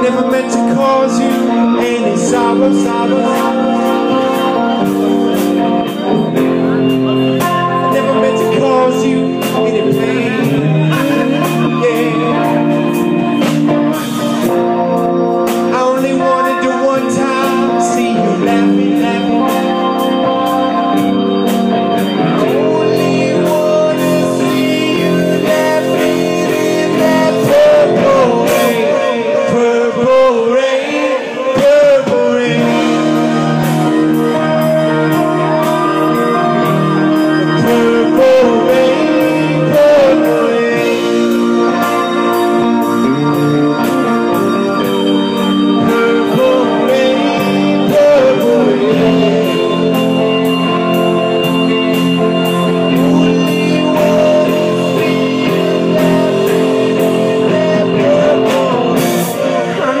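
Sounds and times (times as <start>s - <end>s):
drums keeping a steady beat: 0.0s - 60.0s
electric guitars: 0.0s - 60.0s
person singing: 0.0s - 60.0s.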